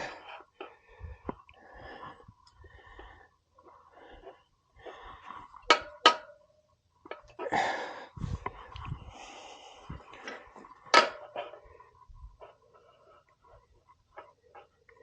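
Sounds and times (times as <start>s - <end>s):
man breathing heavily: 0.0s - 5.7s, 7.3s - 15.0s.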